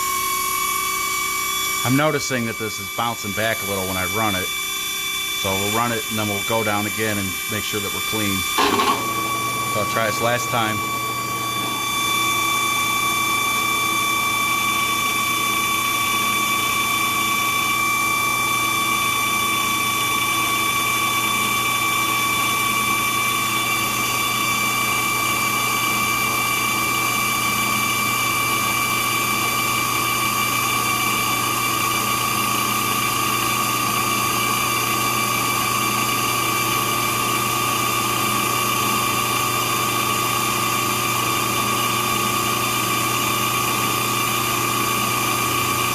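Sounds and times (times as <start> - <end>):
drill press and grinder whining: 0.0 - 45.9.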